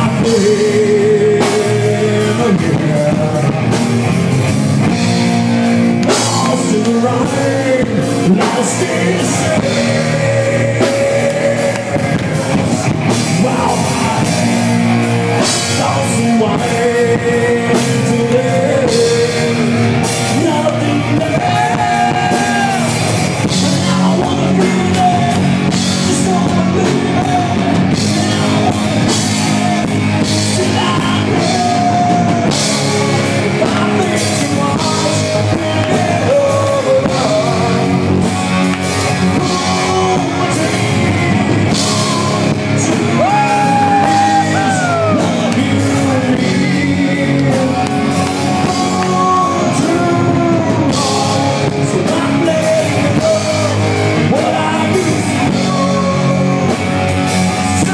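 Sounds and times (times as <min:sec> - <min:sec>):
drum kit: 0:00.0 - 0:57.9
electric guitar: 0:00.0 - 0:57.9
man singing: 0:00.0 - 0:57.9.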